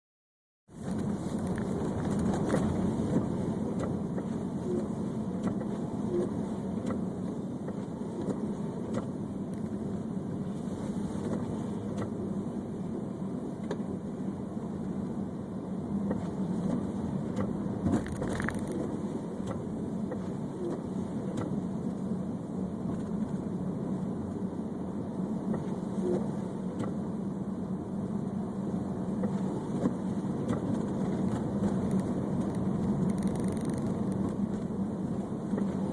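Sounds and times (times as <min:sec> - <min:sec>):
road and engine noise in car: 0:00.7 - 0:35.9.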